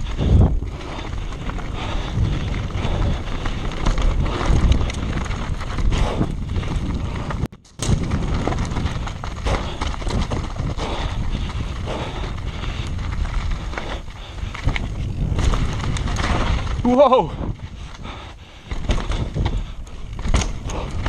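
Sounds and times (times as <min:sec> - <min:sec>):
bike tyres rattling over stones: 0:00.0 - 0:21.0
wind rushing on microphone: 0:00.0 - 0:21.0.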